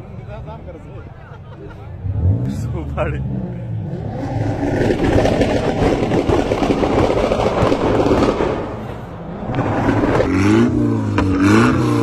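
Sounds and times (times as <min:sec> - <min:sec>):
car engine revving: 0:02.0 - 0:12.0
loud dense rumble: 0:02.1 - 0:12.0.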